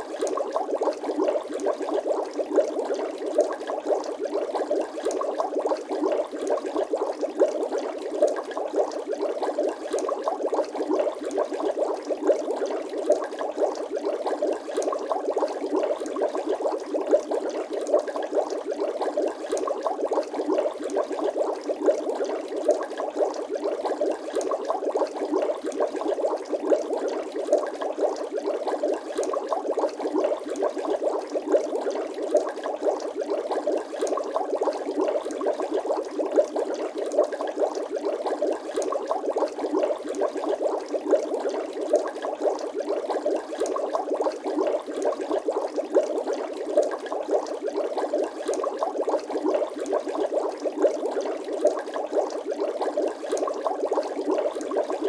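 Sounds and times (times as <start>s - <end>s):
water bubbling: 0.0s - 55.0s.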